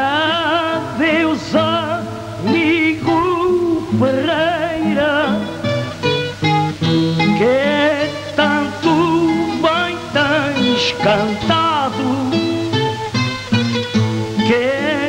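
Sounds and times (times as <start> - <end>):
acoustic guitar melody with vibrato: 0.0 - 15.0.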